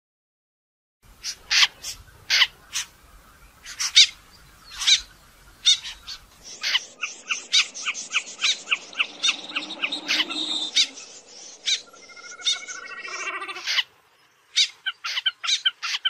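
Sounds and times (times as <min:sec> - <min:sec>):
snipe calling: 0:01.2 - 0:16.0.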